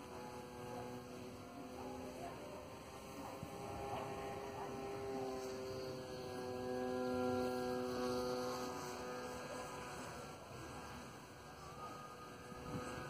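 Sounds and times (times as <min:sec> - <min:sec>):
model aircraft motor and propeller hum: 0:00.0 - 0:13.0.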